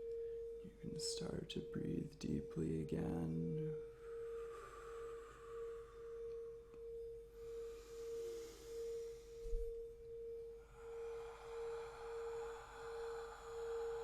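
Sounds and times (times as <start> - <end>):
pulsing pure humming tone: 0.0 - 14.0.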